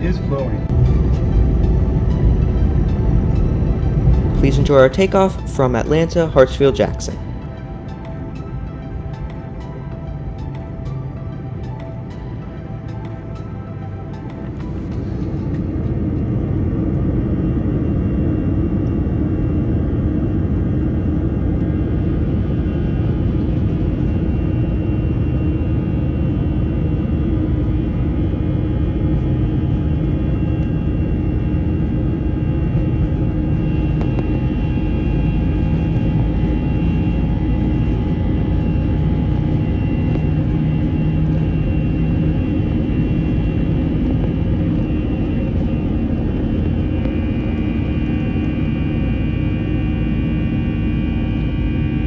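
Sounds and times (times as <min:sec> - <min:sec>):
jet engine rush in cabin: 0:00.0 - 0:52.0
whining engine tones: 0:00.0 - 0:52.0.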